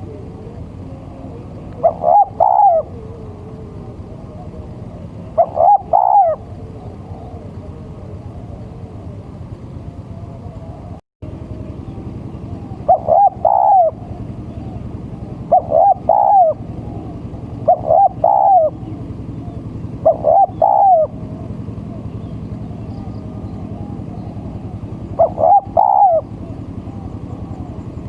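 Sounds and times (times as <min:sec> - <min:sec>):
dove cooing: 0:00.0 - 0:28.0
steady low hum: 0:00.0 - 0:28.0.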